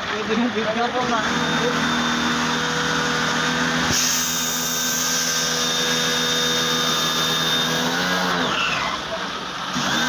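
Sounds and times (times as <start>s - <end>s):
water pump running: 0.0s - 10.0s.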